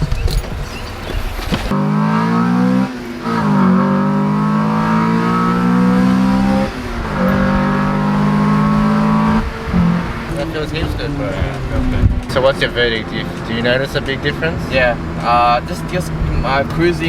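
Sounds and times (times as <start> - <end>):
car engine accelerating hard: 1.3 - 17.0.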